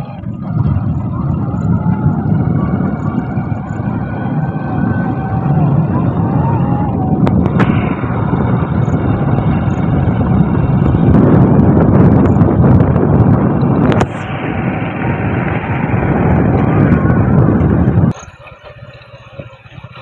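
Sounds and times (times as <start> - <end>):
vehicle road noise: 0.0 - 20.0
wind on microphone: 0.0 - 20.0.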